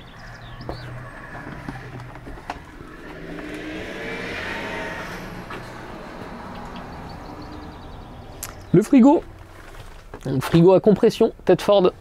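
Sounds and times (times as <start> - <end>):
road vehicle passing: 0.0 - 10.0.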